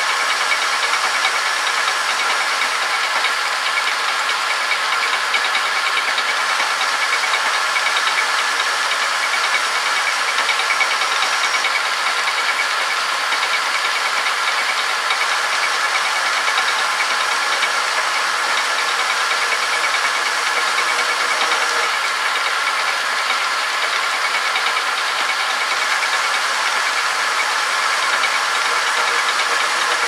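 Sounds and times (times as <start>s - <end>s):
metal lathe whirring: 0.0s - 30.0s.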